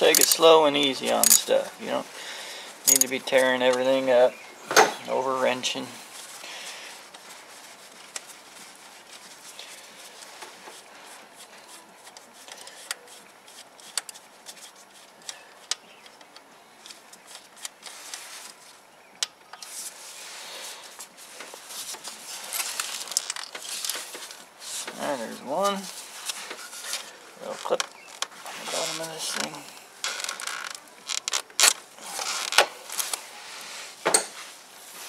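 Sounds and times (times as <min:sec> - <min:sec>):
gloved hands rubbing and rustling: 0:00.0 - 0:04.5, 0:05.2 - 0:35.0.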